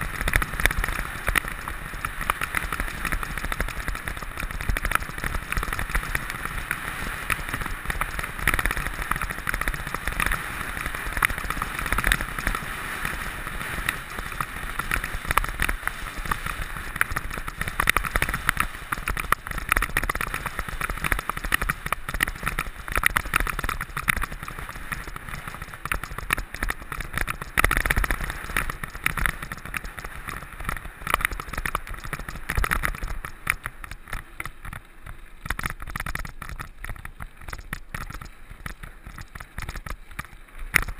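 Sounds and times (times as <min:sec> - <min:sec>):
bike rattling: 0:00.0 - 0:40.9
bike tyres crunching: 0:00.0 - 0:40.9
steady rushing noise: 0:00.0 - 0:40.9.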